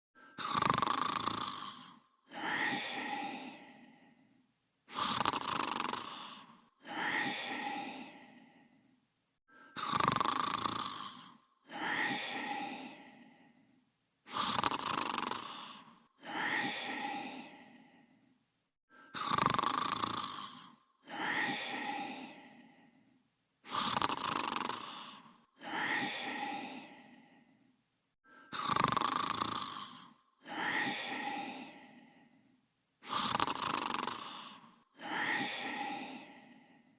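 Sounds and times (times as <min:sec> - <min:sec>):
snoring: 0:00.2 - 0:04.3, 0:04.9 - 0:08.8, 0:09.6 - 0:18.2, 0:18.9 - 0:27.6, 0:28.3 - 0:36.9.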